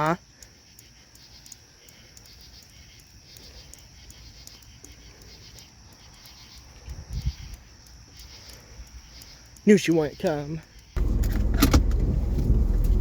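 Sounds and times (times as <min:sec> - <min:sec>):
insects chirring: 0:00.0 - 0:11.2.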